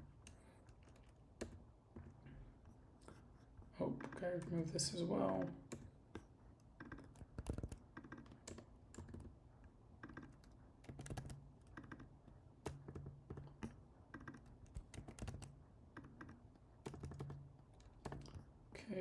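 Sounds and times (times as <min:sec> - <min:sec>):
computer keyboard typing: 0:00.1 - 0:01.7, 0:04.0 - 0:09.4, 0:10.0 - 0:18.5.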